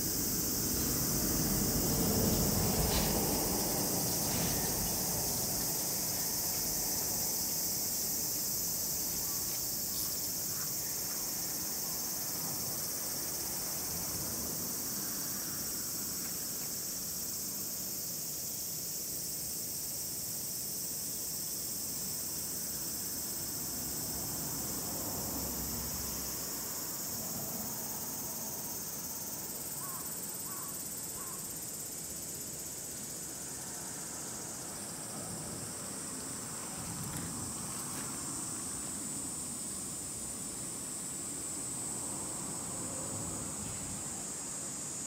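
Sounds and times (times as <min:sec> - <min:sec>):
insects chorus shrill hiss: 0:00.0 - 0:45.0.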